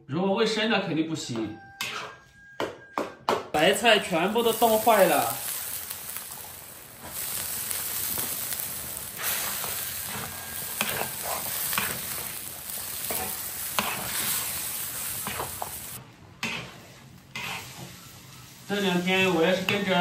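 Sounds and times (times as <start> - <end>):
metal spatula scraping wok: 1.8 - 2.5, 3.6 - 20.0
porridge boiling hiss: 3.6 - 20.0.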